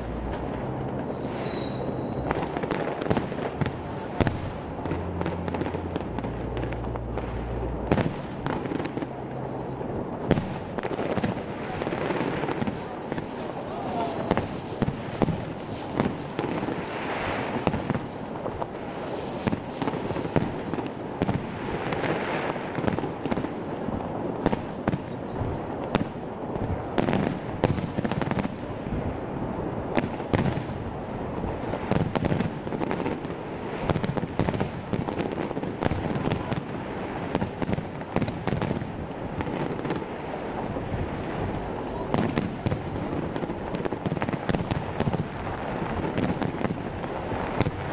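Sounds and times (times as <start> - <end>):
fireworks bangs and crackles: 0.0 - 47.9
rumbling distant explosions: 0.0 - 47.9.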